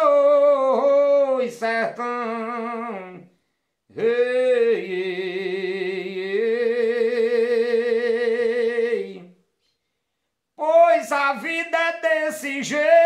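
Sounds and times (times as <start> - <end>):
man singing with vibrato: 0.0 - 9.5, 10.6 - 13.0.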